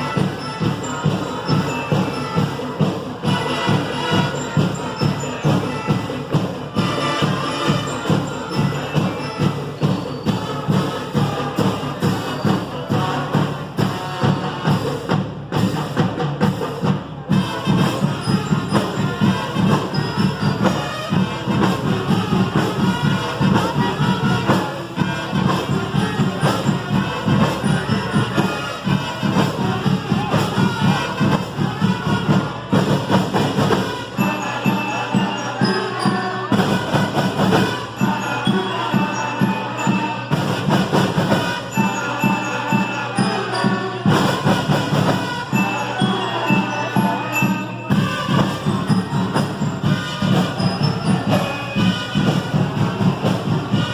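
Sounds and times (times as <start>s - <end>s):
driving drum beat: 0.0s - 53.9s
marching band playing: 0.0s - 53.9s.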